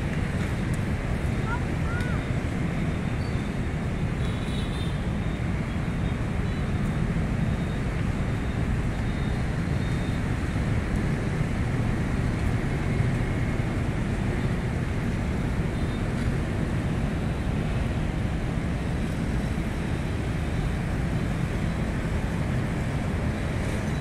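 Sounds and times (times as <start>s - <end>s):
distant traffic: 0.0s - 24.0s.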